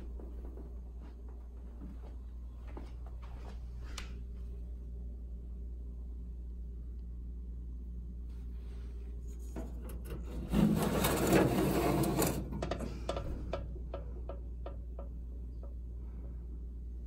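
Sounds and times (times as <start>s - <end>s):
furnace humming: 0.0s - 17.0s.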